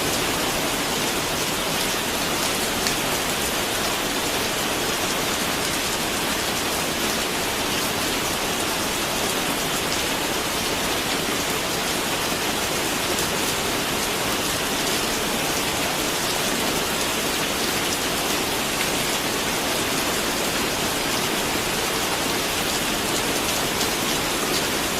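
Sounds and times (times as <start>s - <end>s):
steady rain pattering: 0.0s - 24.9s.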